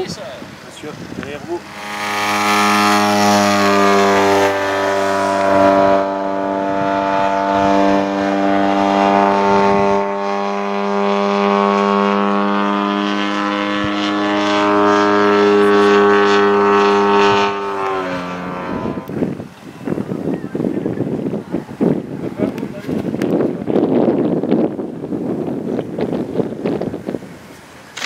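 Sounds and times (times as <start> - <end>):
model airplane engine buzzing: 0.0 - 28.0.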